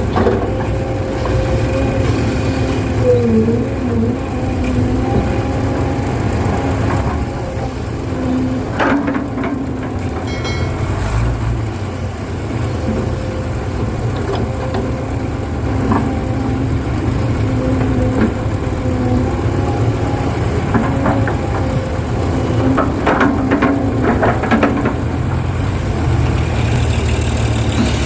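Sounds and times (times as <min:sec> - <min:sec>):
excavator engine rumbling: 0:00.0 - 0:28.0.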